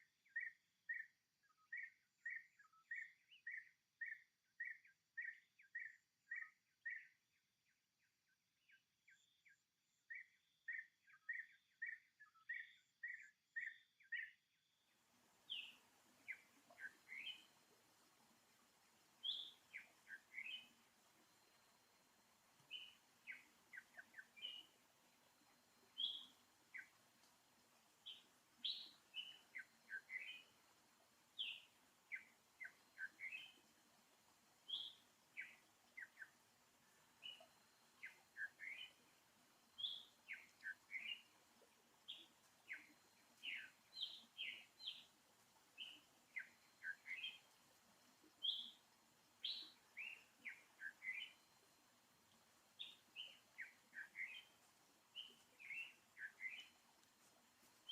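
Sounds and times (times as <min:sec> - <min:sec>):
small bird chirping: 0:00.2 - 0:07.2, 0:10.1 - 0:57.9.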